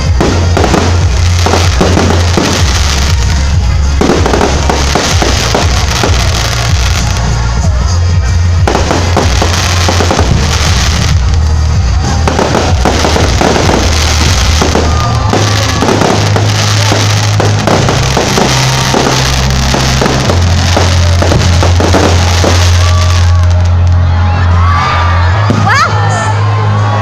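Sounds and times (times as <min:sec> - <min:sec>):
fireworks bursting and crackling: 0:00.0 - 0:24.3
loud music with heavy bass: 0:00.0 - 0:26.7.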